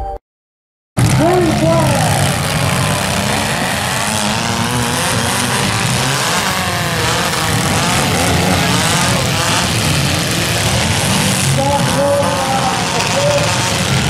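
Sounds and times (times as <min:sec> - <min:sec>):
car engines revving: 0:01.0 - 0:14.0.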